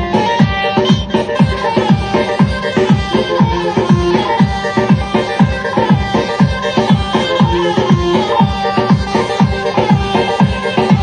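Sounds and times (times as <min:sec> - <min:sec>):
electronic dance music: 0:00.0 - 0:11.0
electronic melody: 0:00.0 - 0:11.0.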